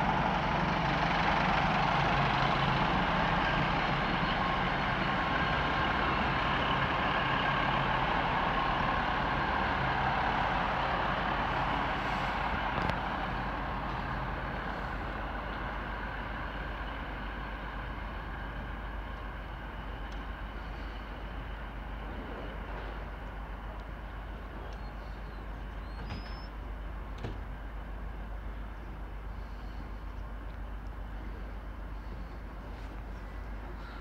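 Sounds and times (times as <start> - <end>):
diesel train rumbling past: 0.0 - 34.0.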